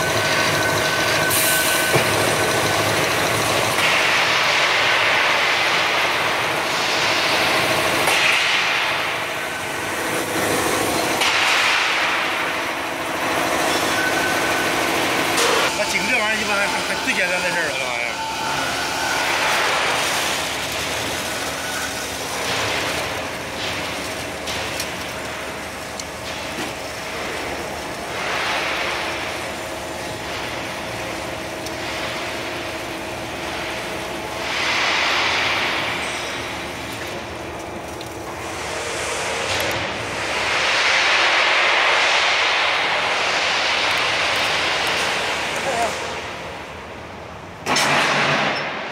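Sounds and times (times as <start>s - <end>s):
machinery mechanical hum: 0.0s - 48.9s.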